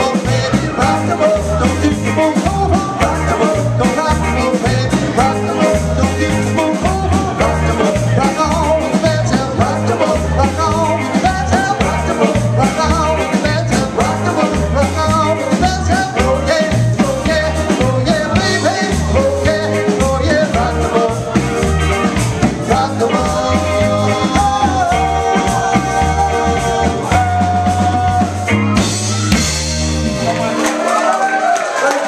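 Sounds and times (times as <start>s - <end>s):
man singing: 0.0s - 29.4s
drums: 0.0s - 32.0s
electric guitar: 0.0s - 32.0s.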